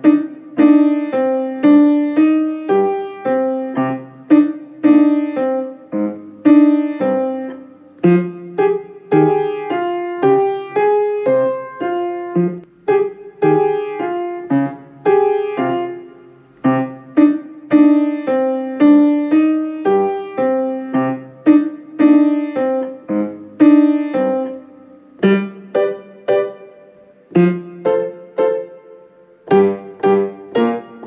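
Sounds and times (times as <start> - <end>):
piano boogie piece: 0.0 - 31.0.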